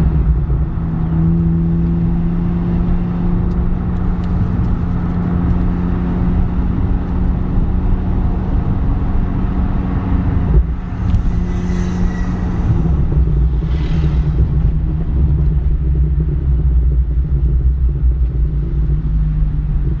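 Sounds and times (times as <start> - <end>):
car engine exhaust drone: 0.0 - 20.0.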